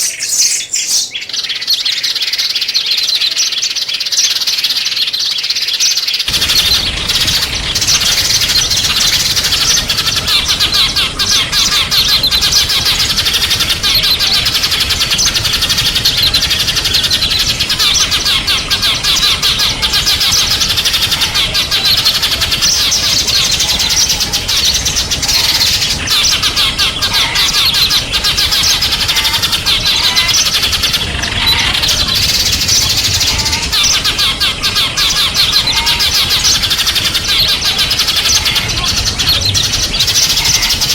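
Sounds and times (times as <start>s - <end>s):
small songbirds twittering: 0.0s - 40.9s.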